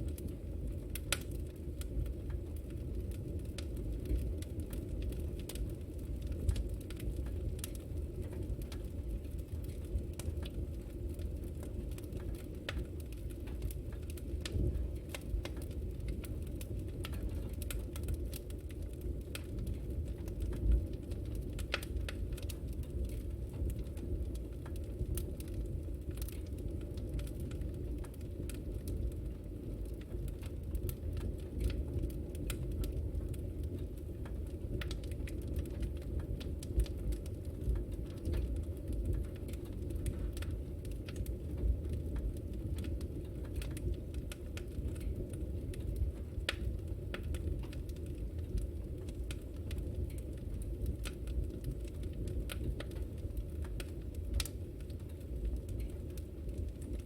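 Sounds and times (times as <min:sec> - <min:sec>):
fire crackling and popping: 0:00.0 - 0:57.0
low fire rumble: 0:00.0 - 0:57.0.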